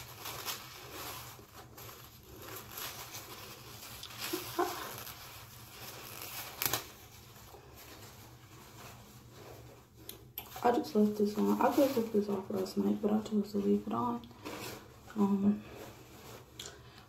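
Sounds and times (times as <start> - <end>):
cloth cap rustling: 0.0 - 17.0.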